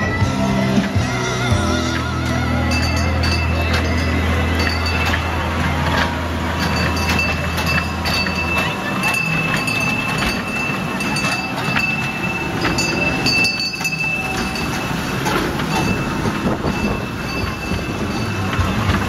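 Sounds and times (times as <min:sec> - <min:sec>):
train rumble: 0:00.0 - 0:19.0
wheels clacking on track: 0:00.0 - 0:19.0.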